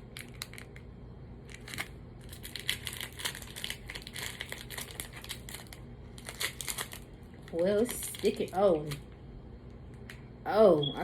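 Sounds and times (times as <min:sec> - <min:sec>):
candy wrapper crinkling: 0:00.0 - 0:09.2.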